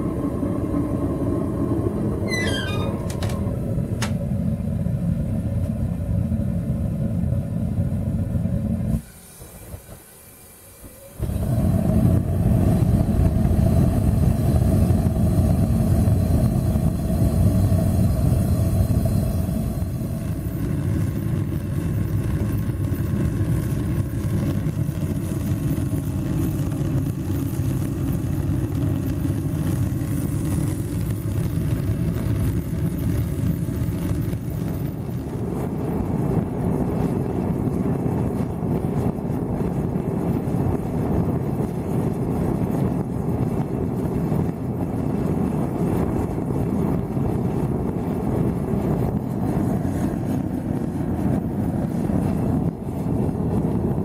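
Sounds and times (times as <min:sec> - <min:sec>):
furnace roaring: 0:00.0 - 0:54.0.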